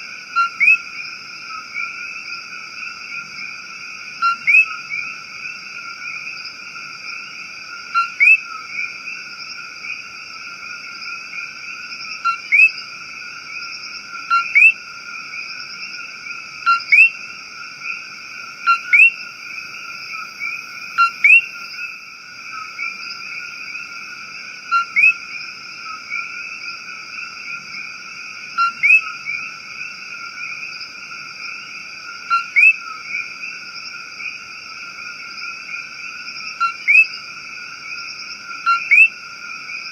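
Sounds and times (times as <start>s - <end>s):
frogs and insects droning: 0.0s - 39.9s
loud frog call: 0.0s - 39.9s.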